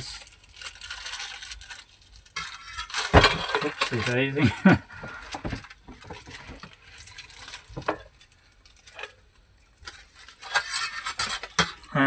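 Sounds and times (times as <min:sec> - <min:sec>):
metal utensils clicking on grill: 0:01.0 - 0:12.0.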